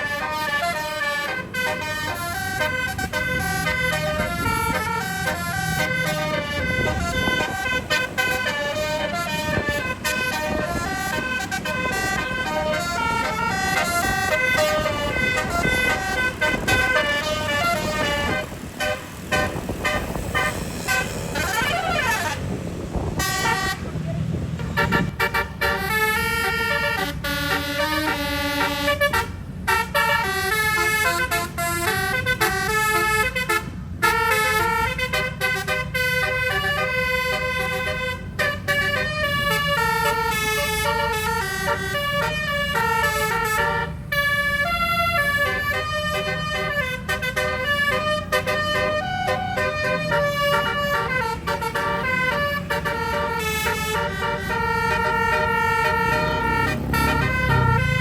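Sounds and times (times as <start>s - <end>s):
bus horn playing tune: 0.0s - 58.0s
engine and road noise: 0.0s - 58.0s.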